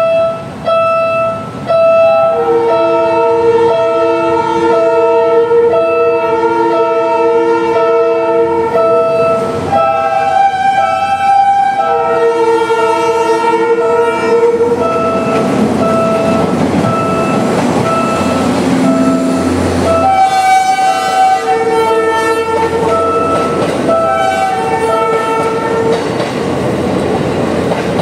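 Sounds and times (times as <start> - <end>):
train horn blasts: 0.0 - 26.2
passing train rumble: 0.0 - 28.0.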